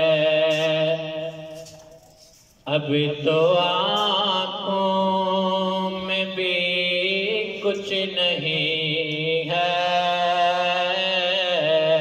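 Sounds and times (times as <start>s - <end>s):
man singing into a microphone: 0.0s - 1.9s, 2.6s - 12.0s.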